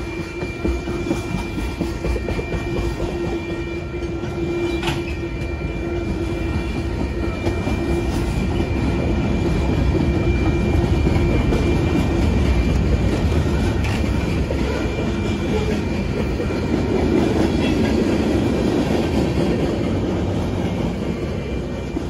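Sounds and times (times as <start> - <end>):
freight train wheels clacking: 0.0 - 22.0.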